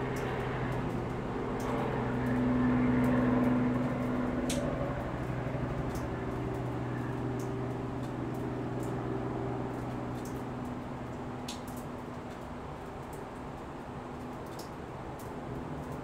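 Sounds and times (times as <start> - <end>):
low mechanical hum: 0.0 - 16.0
faint high ticks: 1.6 - 2.4, 3.0 - 9.0, 9.7 - 16.0.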